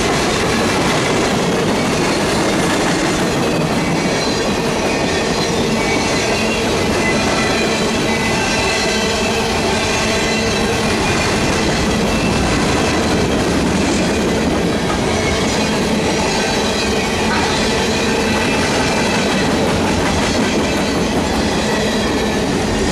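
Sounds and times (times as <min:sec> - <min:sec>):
freight cars rumbling on rails: 0:00.0 - 0:22.9.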